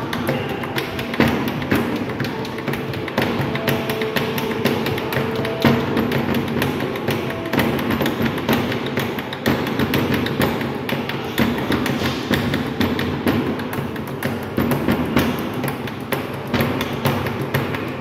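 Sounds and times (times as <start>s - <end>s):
hands and pens drumming on desk: 0.0s - 18.0s.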